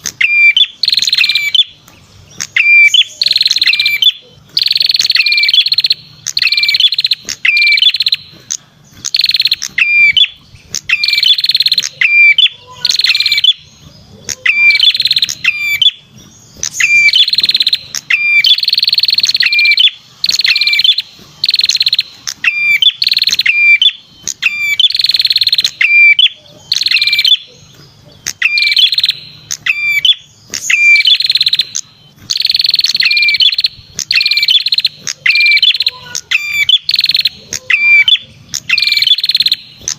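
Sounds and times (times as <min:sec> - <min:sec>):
buzzy high bird call: 0:00.0 - 0:39.9.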